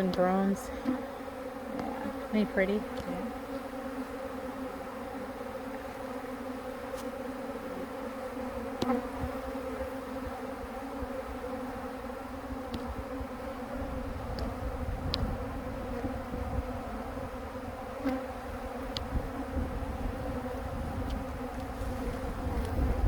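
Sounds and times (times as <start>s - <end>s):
bee swarm buzzing: 0.0s - 23.0s.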